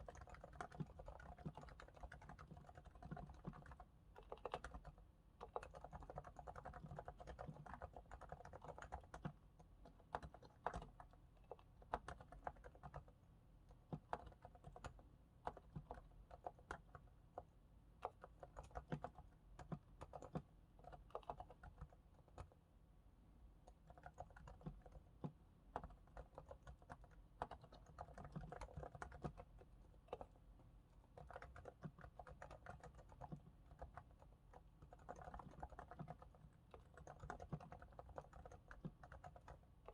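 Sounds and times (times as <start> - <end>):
soft muted keyboard keystrokes: 0.0 - 22.6, 23.6 - 39.9.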